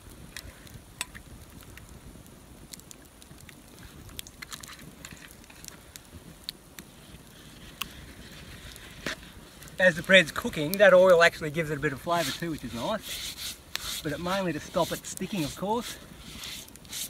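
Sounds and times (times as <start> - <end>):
campfire crackling: 0.0 - 17.0
wind rumbling on microphone: 0.0 - 17.0.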